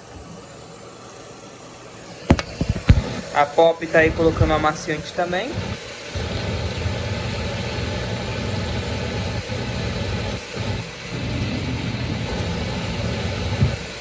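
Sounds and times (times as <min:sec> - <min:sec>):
water noise: 0:00.0 - 0:14.0
washing machine motor hum: 0:02.2 - 0:14.0.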